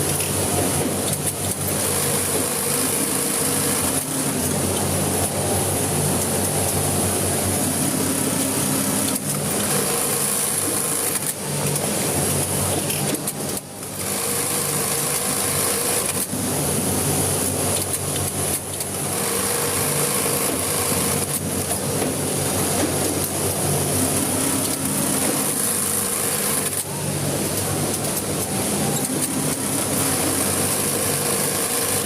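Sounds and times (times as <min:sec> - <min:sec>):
electric sewing machine stitching: 0:00.6 - 0:16.4, 0:17.4 - 0:27.3, 0:27.9 - 0:32.0.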